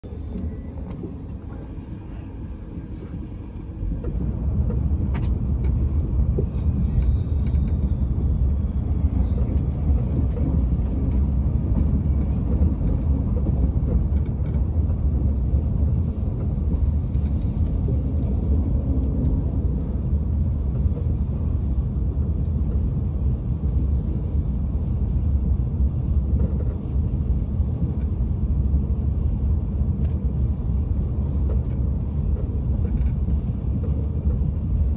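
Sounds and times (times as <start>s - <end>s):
train interior low rumble: 0.0s - 34.9s.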